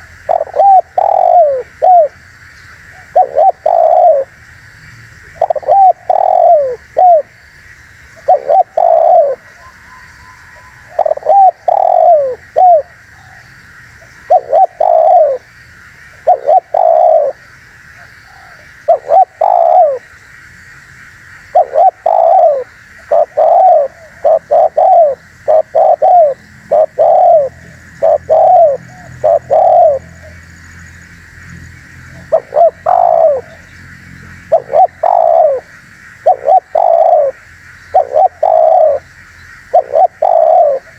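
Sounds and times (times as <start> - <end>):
dove cooing: 0.0 - 2.2, 2.8 - 4.4, 5.2 - 7.4, 8.1 - 15.5, 16.1 - 20.1, 21.4 - 30.4, 32.1 - 40.9.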